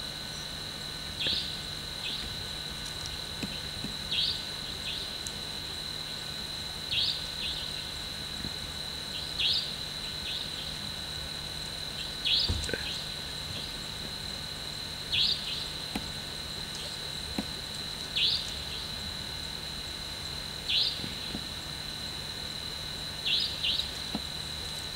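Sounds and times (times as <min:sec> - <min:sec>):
high insect trill: 0:00.0 - 0:24.9.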